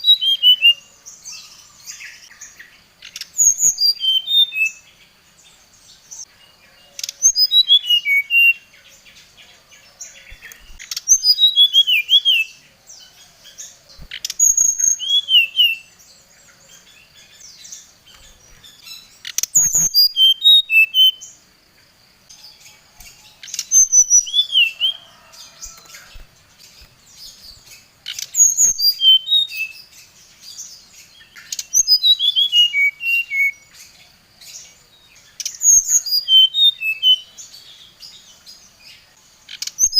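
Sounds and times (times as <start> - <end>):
bird singing whistled notes: 0.0 - 21.4, 22.3 - 39.9.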